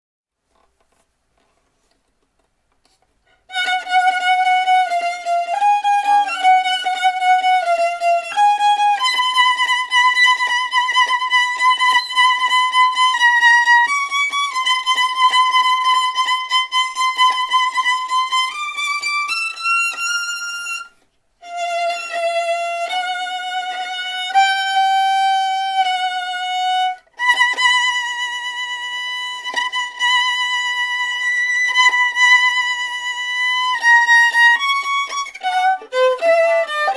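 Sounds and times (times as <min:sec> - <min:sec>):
solo violin melody: 0:03.3 - 0:36.9.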